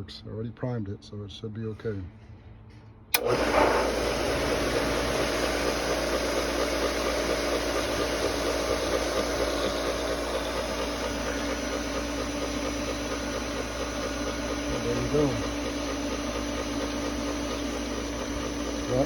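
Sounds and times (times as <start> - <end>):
pool pump motor humming: 3.1 - 19.0.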